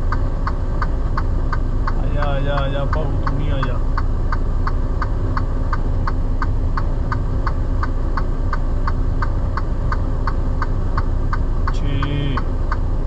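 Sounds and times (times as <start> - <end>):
diesel engine idling: 0.0 - 13.0
hazard light flasher ticking: 0.0 - 13.0.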